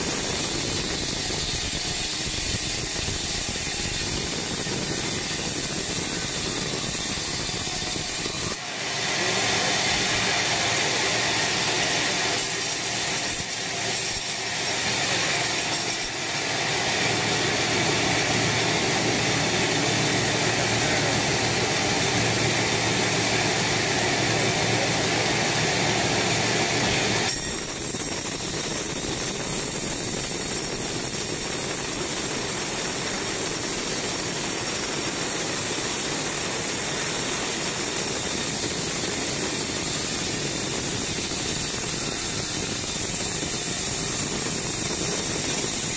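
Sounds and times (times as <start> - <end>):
band saw cutting log: 0.0 - 45.9.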